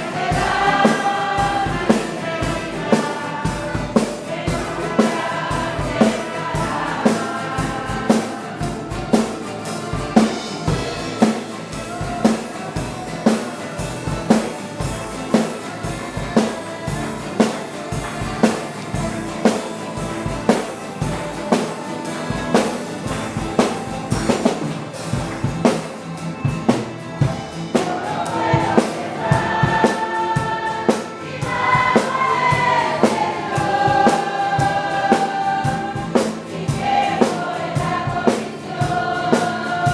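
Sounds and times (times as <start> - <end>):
group singing a hymn: 0.0 - 39.9
steady drum beat: 0.0 - 39.9.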